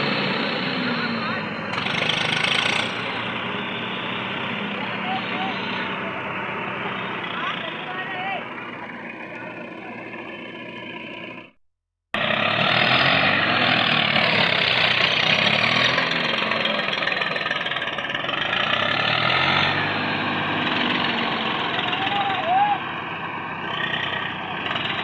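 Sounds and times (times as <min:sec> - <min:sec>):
tractor diesel engine revving: 0:00.0 - 0:25.0.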